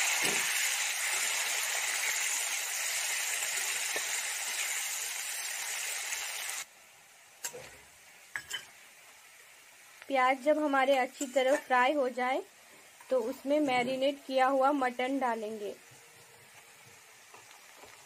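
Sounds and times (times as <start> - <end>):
onions frying in hot oil: 0.0 - 18.0.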